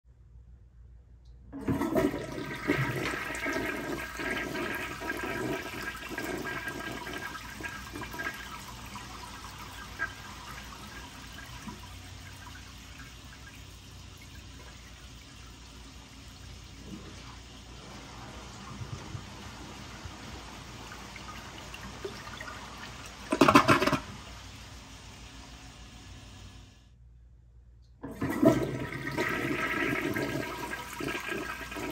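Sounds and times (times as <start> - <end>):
toilet flushing: 1.5 - 26.8, 28.0 - 31.9.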